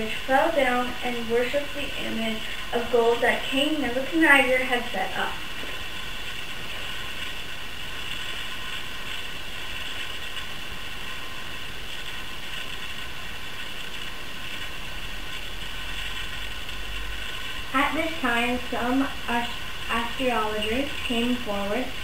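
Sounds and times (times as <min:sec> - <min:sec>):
background hiss and hum: 0:00.0 - 0:22.0.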